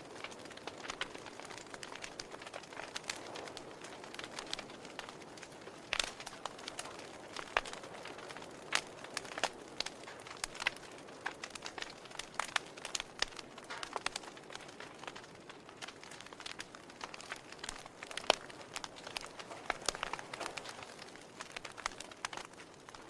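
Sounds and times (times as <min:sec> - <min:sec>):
fireplace fire crackling: 0:00.0 - 0:23.0.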